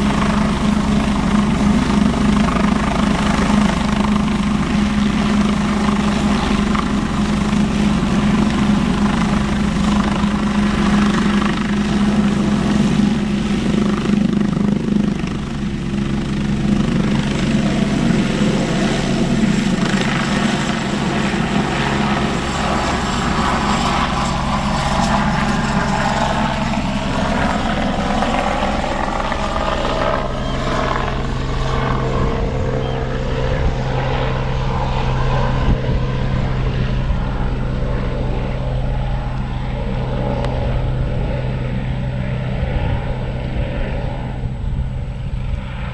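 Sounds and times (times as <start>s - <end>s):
helicopter rotor and engine hum: 0.0s - 45.9s.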